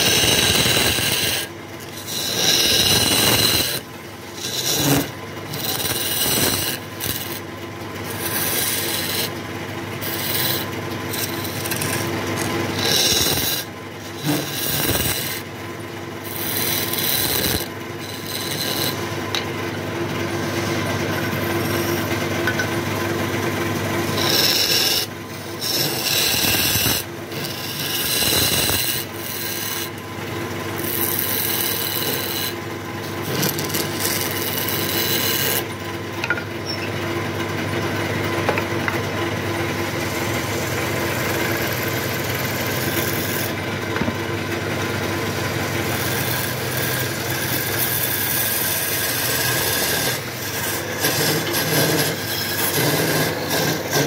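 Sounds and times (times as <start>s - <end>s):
chisel scraping wood: 0.0s - 23.0s, 23.7s - 37.0s, 38.4s - 54.0s
lathe humming: 0.0s - 54.0s.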